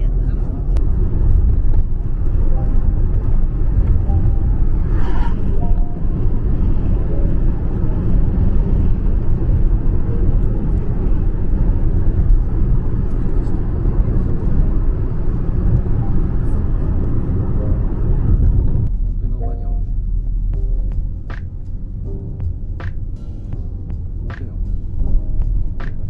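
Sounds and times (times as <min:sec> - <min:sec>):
car road noise: 0:00.0 - 0:26.0.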